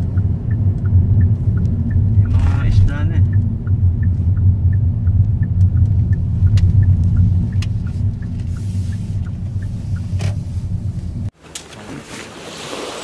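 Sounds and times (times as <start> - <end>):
faint regular ticking: 0.0 - 11.3
road and engine rumble: 0.0 - 11.9.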